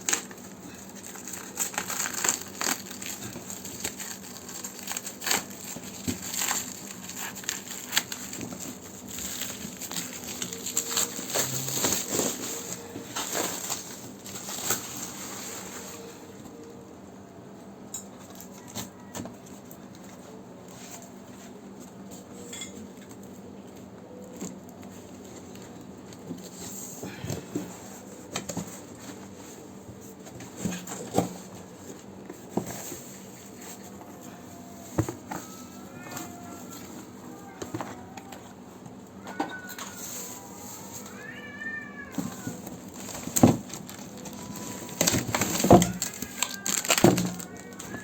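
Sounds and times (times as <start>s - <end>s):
hard parts and packaging handled: 0.0s - 16.6s, 18.0s - 48.0s.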